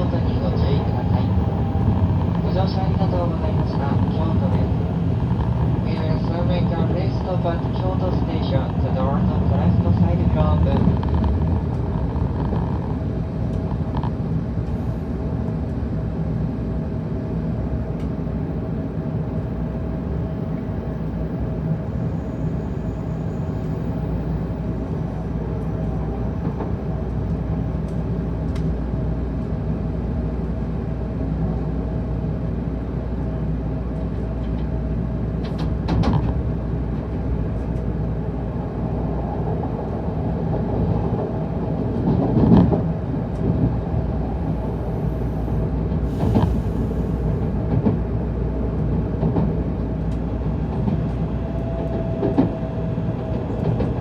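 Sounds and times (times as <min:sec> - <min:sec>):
train running rumble: 0:00.0 - 0:54.0.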